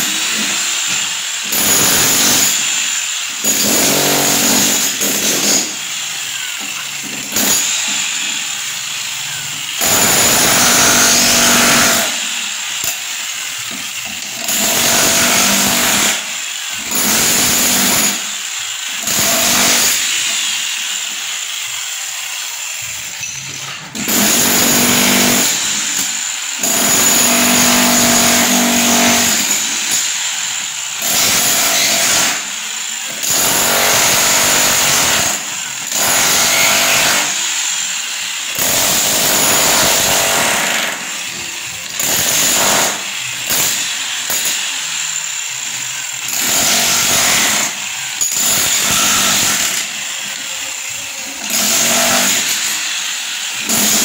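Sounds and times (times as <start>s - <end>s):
handheld power tool running: 0.0s - 54.0s.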